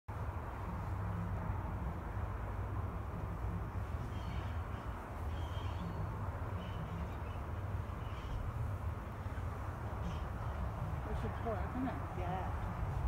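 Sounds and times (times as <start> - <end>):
low outdoor rumble: 0.1 - 13.0.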